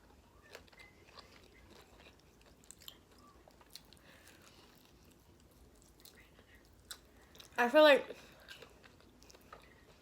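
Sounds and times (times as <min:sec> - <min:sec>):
faint chewing: 0:00.0 - 0:07.6, 0:08.2 - 0:10.0.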